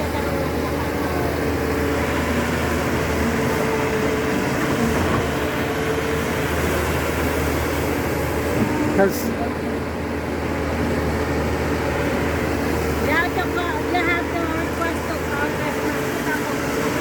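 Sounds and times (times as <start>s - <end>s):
backhoe engine droning: 0.0s - 17.0s.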